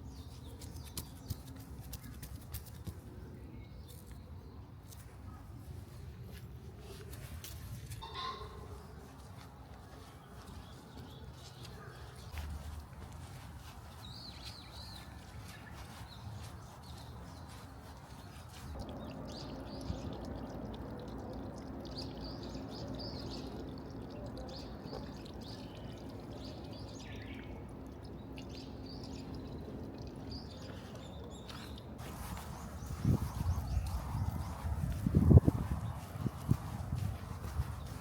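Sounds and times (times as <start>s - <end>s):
small birds chirping: 0.0s - 6.0s, 6.8s - 38.0s.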